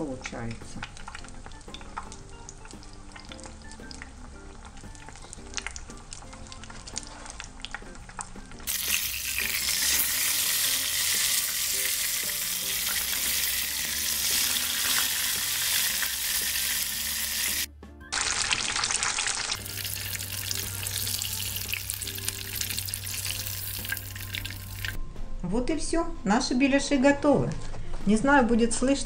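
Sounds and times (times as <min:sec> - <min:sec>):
oil sizzling in frying pan: 0:00.8 - 0:25.0.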